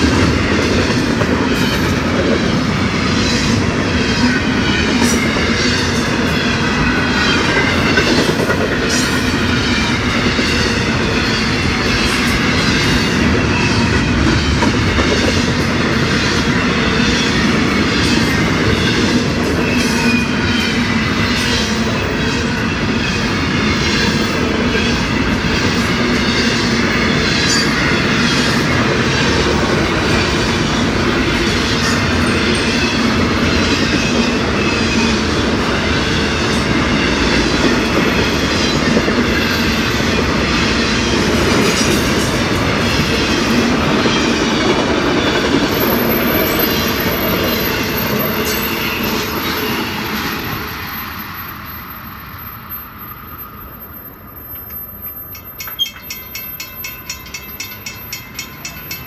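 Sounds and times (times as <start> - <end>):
freight train wheels clattering: 0.0 - 50.6.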